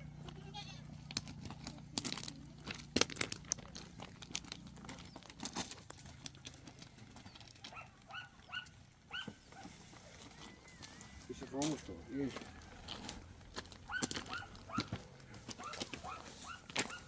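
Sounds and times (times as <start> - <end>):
rustling and crinkling: 0.9 - 17.0.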